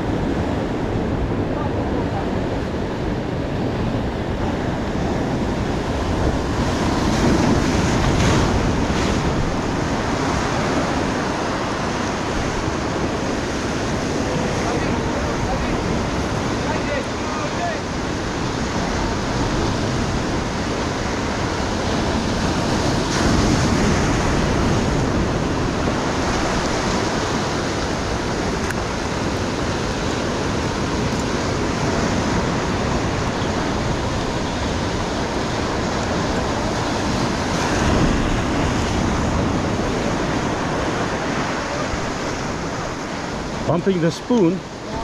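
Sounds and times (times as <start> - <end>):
ocean surf breaking over rocks: 0.0 - 45.0.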